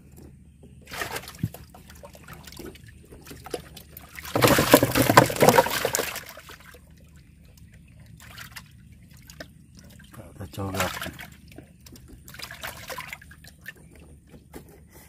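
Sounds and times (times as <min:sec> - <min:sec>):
water splashing and trickling: 0:00.6 - 0:15.0.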